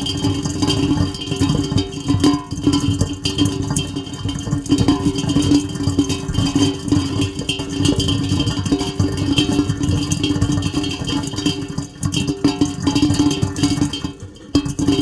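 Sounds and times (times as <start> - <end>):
rain pattering on hard surface: 0.0 - 15.0.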